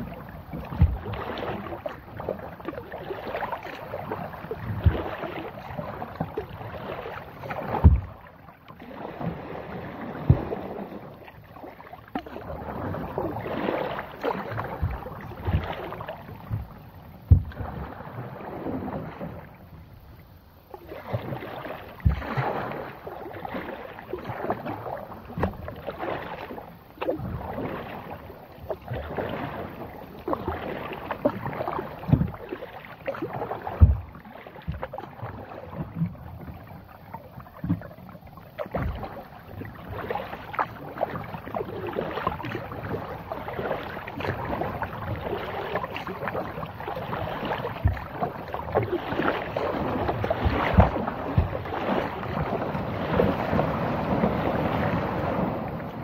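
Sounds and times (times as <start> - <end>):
kayak paddle splashing in water: 0.0 - 56.0.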